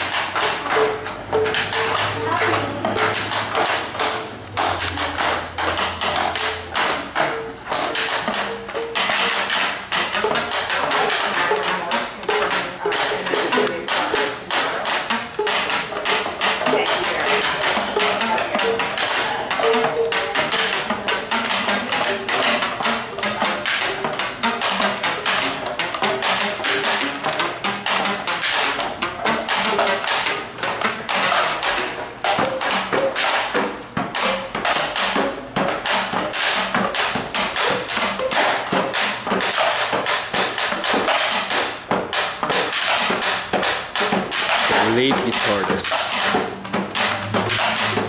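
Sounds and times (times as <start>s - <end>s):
plucked rubber-band notes: 0.0s - 48.0s.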